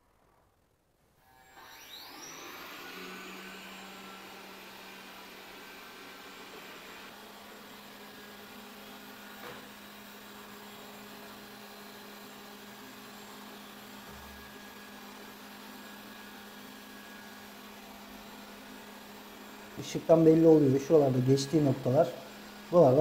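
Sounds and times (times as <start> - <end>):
robot vacuum humming: 1.2 - 23.0.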